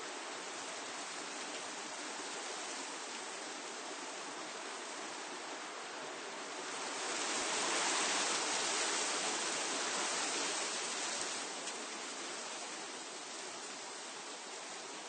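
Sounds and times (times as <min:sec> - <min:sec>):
wind rushing through leaves: 0:00.0 - 0:15.0.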